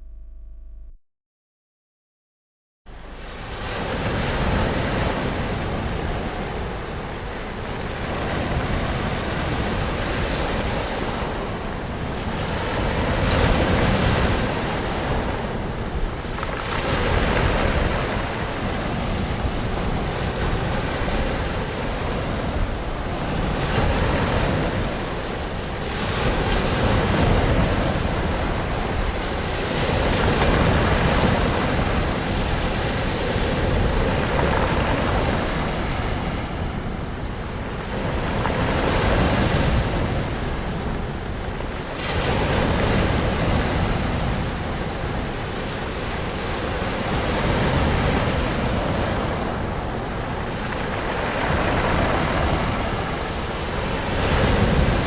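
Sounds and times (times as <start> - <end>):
ocean waves breaking: 3.0 - 55.0.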